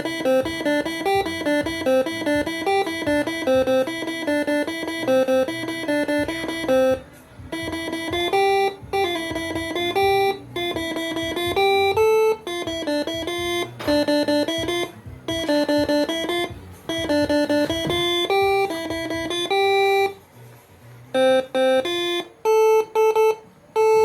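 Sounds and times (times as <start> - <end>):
air horn playing a melody: 0.0 - 20.1.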